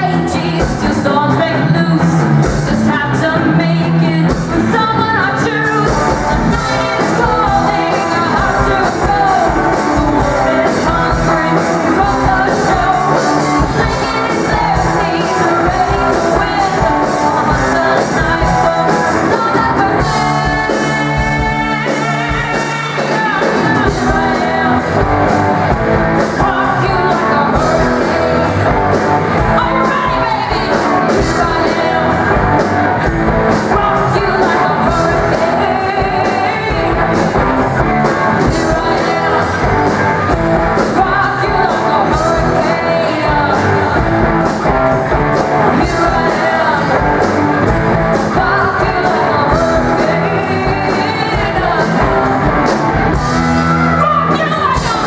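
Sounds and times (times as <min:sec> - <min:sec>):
loud rock song: 0:00.0 - 0:55.0.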